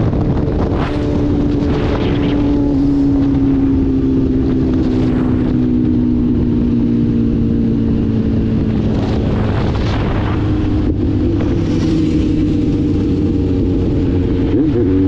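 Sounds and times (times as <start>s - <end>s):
motorcycle engine drone: 0.0s - 15.0s
wind noise: 0.0s - 15.0s.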